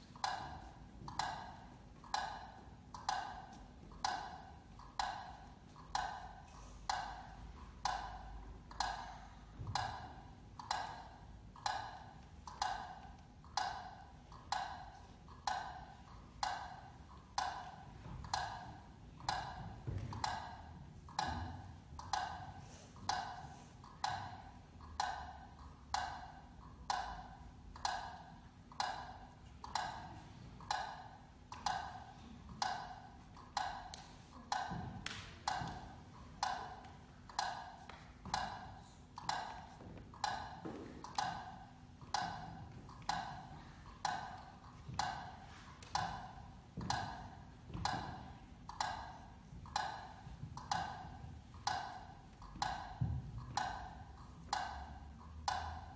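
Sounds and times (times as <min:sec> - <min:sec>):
hollow clock-like ticking: 0:00.0 - 0:55.9.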